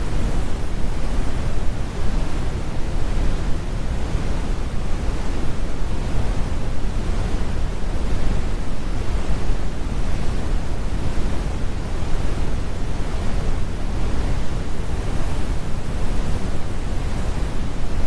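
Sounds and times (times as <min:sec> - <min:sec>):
brown noise: 0:00.0 - 0:18.0.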